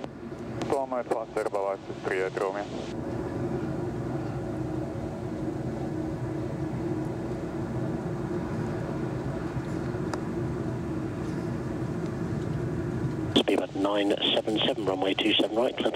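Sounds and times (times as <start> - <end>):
jet engines droning: 0.0 - 15.9.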